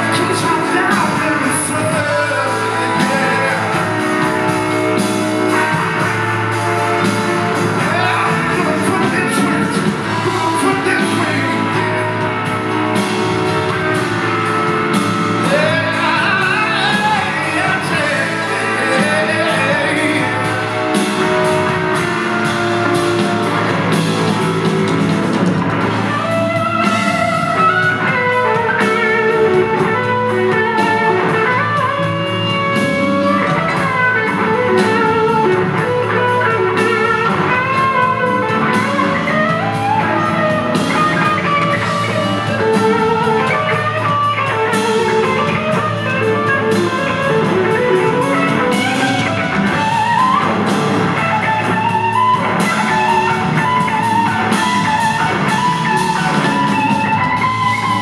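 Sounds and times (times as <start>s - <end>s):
bass guitar: 0.0s - 58.0s
drums: 0.0s - 58.0s
electric guitar lead line: 0.0s - 58.0s.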